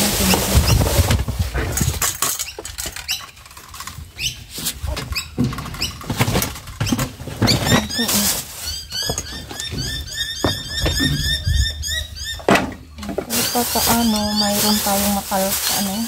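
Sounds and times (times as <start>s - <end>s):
plastic bags rustling: 0.0s - 16.0s.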